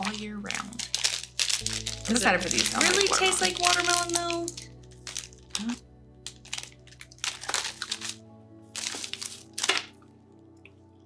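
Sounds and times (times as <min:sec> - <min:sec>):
plastic wrapper crinkling: 0:00.0 - 0:10.1
soft background music: 0:00.0 - 0:11.0.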